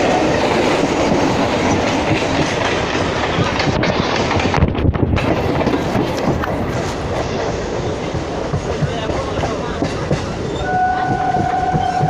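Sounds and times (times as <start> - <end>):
train wheels clattering over rail joints: 0.0 - 10.6.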